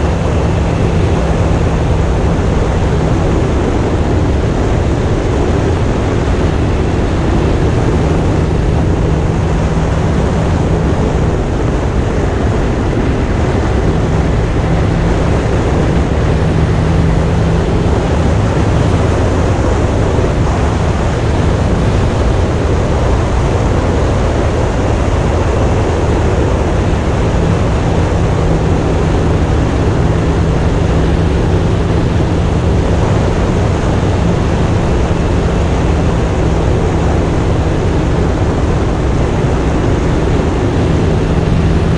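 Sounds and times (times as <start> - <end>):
motorcycle engine humming: 0.0 - 41.9
wind and road noise: 0.0 - 41.9.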